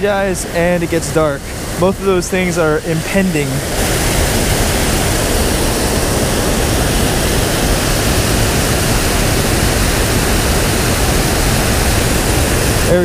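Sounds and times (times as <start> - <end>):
water pouring over a dam: 0.1 - 13.0.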